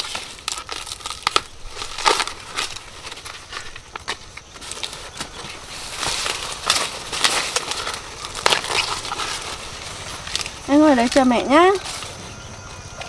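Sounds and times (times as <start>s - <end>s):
corn ears snapping: 0.0s - 12.2s
corn leaves rustling: 0.0s - 13.0s.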